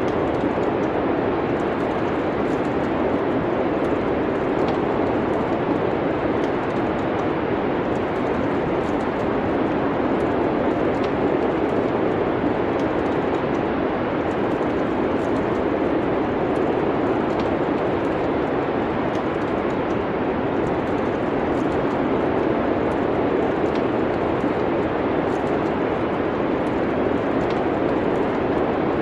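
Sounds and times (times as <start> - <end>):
snowstorm wind: 0.0 - 29.0
wood fire crackling: 0.0 - 29.0.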